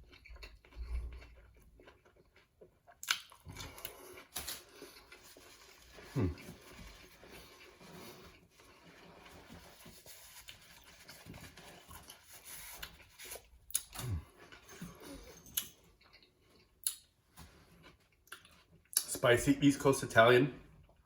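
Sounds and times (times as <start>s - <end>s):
man chewing: 0.0s - 19.1s.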